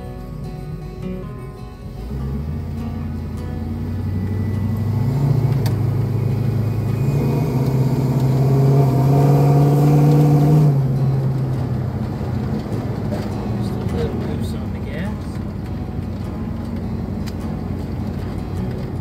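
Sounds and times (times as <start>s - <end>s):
v eight engine accelerating: 0.0s - 19.0s.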